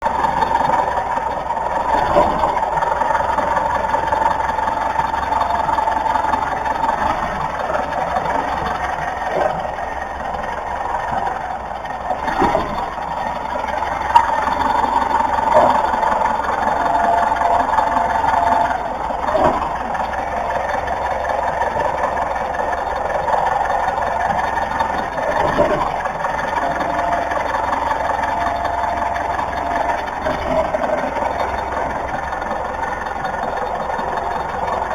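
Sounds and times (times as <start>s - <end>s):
car running with road noise: 0.0s - 34.9s.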